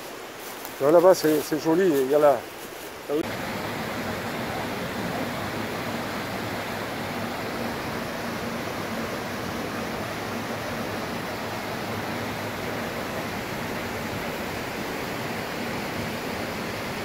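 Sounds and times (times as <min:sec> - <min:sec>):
creek rushing over rocks: 0:00.0 - 0:17.0.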